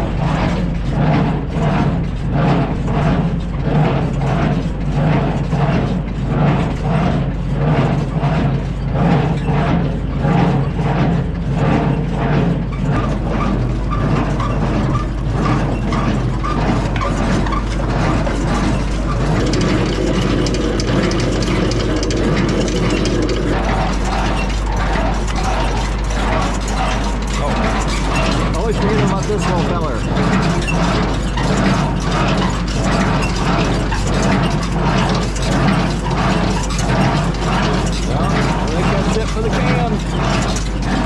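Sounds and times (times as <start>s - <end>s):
tractor idling: 0.0s - 41.0s.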